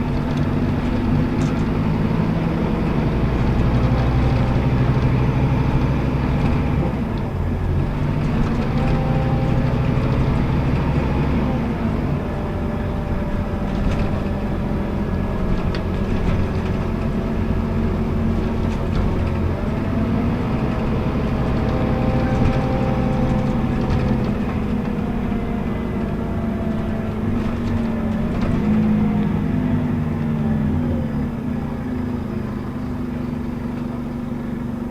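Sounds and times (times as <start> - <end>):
bus diesel engine drone: 0.0 - 34.9
road rumble: 0.0 - 34.9.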